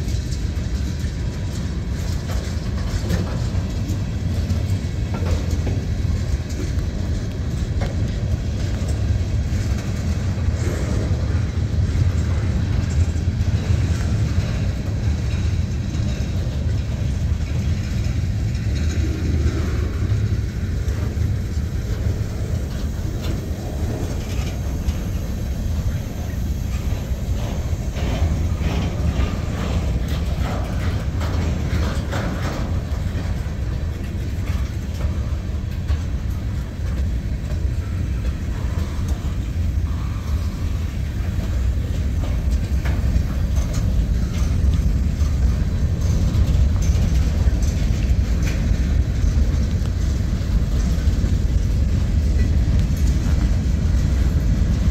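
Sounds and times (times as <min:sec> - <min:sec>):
steel wheels rumbling on rail: 0:00.0 - 0:54.9
train cars clicking and knocking: 0:00.0 - 0:54.9.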